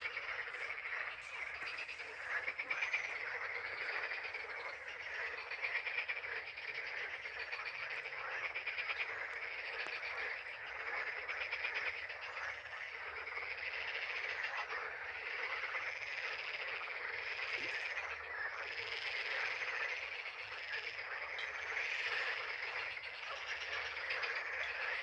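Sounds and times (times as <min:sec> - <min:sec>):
chorus of frogs croaking: 0:00.0 - 0:25.0.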